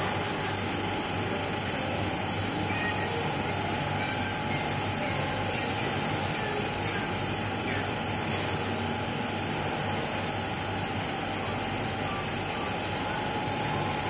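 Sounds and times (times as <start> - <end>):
machinery and fans humming: 0.0 - 14.0
thin constant whine: 0.0 - 14.0.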